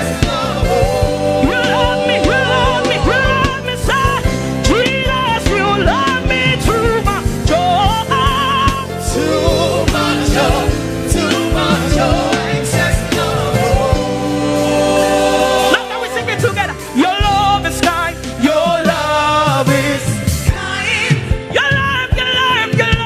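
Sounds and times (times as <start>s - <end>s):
drums: 0.0s - 23.0s
person singing gospel: 0.0s - 23.0s
sustained keyboard chords: 0.0s - 23.0s.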